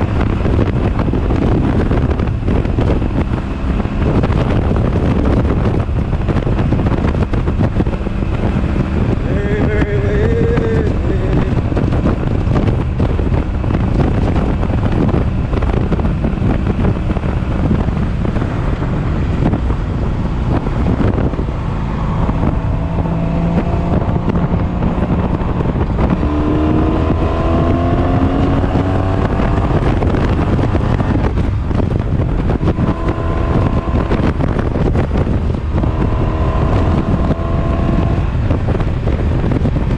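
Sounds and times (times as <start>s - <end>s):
motorcycle engine accelerating: 0.0s - 39.9s
wind buffeting microphone: 0.0s - 39.9s.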